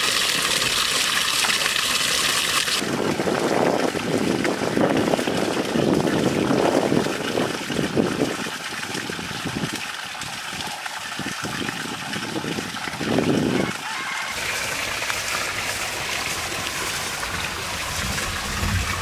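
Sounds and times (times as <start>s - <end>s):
water splashing into pond: 0.0s - 19.0s.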